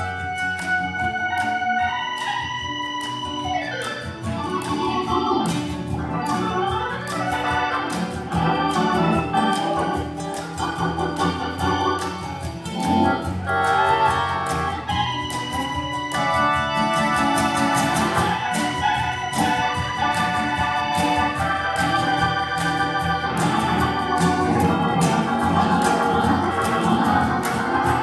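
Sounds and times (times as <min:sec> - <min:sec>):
bass: 0:00.0 - 0:28.0
percussion hits: 0:00.0 - 0:28.0
organ-toned keyboard runs: 0:01.4 - 0:28.0.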